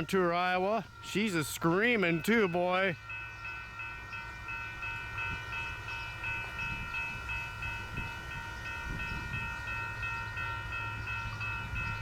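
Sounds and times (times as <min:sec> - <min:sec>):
freight train rumble: 0:00.0 - 0:12.0
railroad crossing bell ringing: 0:00.0 - 0:12.0.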